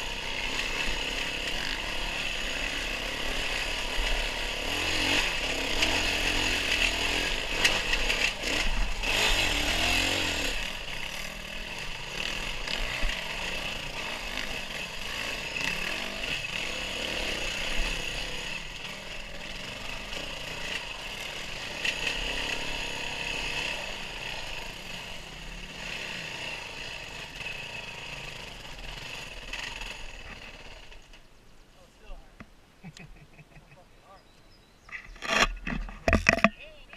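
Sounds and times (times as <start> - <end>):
off-road vehicle engine buzzing: 0.0 - 31.3, 34.8 - 36.9.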